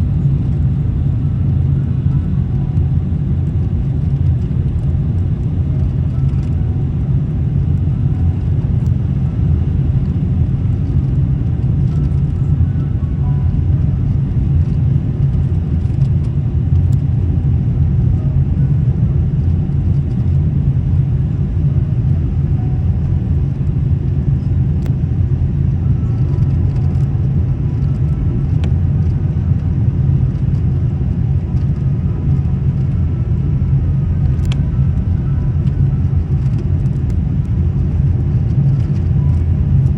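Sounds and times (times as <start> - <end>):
airliner low rumble: 0.0 - 39.9.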